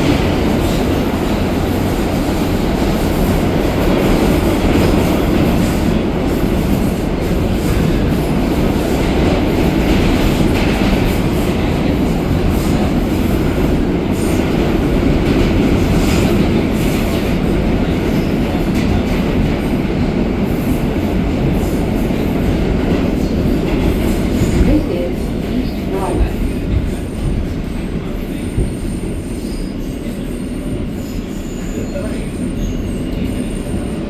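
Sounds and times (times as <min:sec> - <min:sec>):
rumble of wheels on rails: 0:00.0 - 0:34.0.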